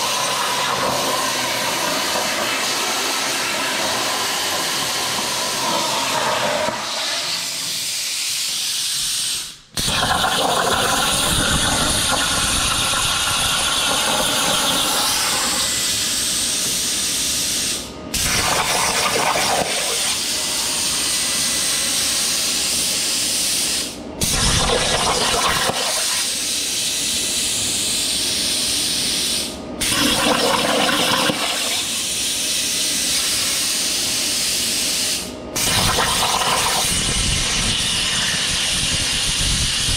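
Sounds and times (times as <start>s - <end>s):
plasma torch hissing: 0.0s - 27.2s, 30.9s - 39.9s.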